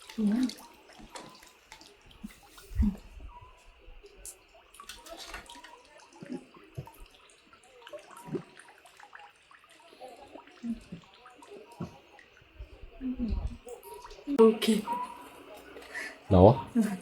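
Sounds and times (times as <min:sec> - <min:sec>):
faint splashing and dripping water: 0:00.0 - 0:17.0.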